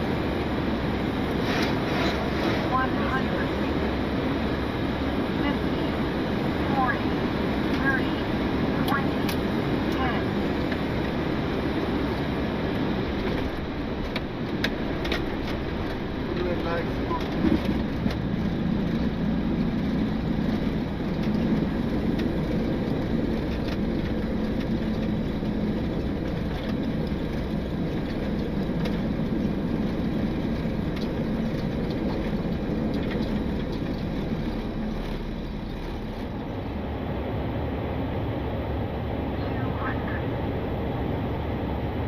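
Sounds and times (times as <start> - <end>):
jet engines rumbling in cockpit: 0.0 - 42.0.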